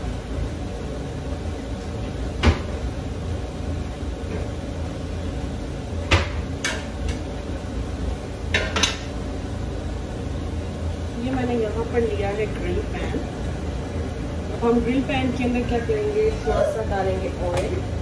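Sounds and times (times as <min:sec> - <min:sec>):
gas hob rumble: 0:00.0 - 0:18.0.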